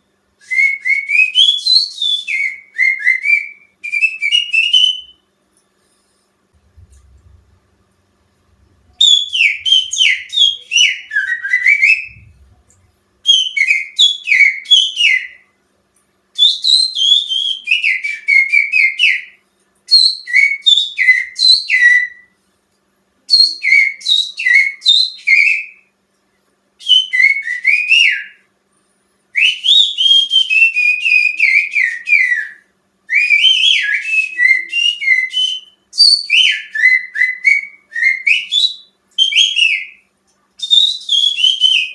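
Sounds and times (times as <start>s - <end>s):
person whistling bird song: 0.4s - 5.2s, 8.9s - 15.5s, 16.4s - 22.4s, 23.3s - 25.9s, 26.8s - 28.5s, 29.3s - 41.9s.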